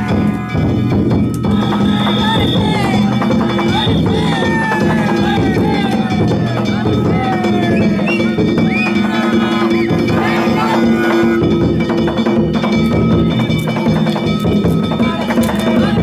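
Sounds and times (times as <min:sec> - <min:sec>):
drum beating rapidly: 0:00.0 - 0:16.0
sustained tones: 0:00.0 - 0:16.0.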